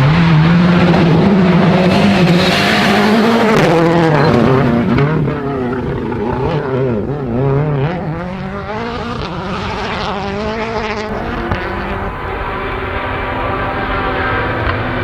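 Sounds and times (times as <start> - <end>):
turbocharged car engine revving: 0.0 - 15.0.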